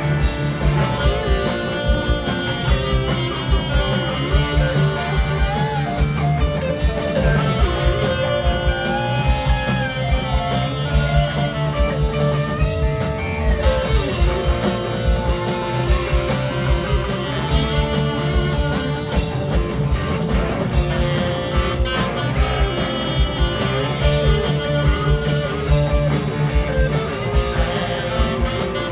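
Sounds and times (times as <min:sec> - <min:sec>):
bass guitar: 0:00.0 - 0:28.9
drum kit: 0:00.0 - 0:28.9
electric guitar melody with bent notes: 0:00.0 - 0:28.9.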